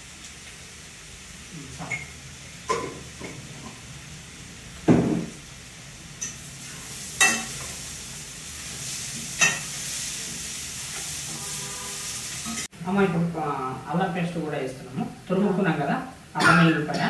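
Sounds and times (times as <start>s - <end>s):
vegetables sizzling in oil: 0.0s - 16.9s.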